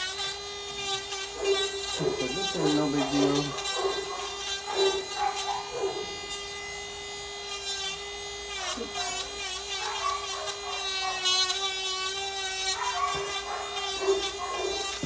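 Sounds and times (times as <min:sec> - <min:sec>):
small motor whirring: 0:00.0 - 0:15.0.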